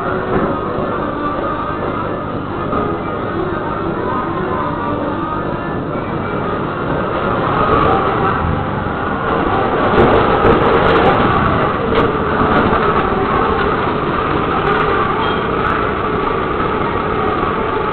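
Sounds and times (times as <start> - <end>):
rumbling vehicle noise: 0.0 - 17.9.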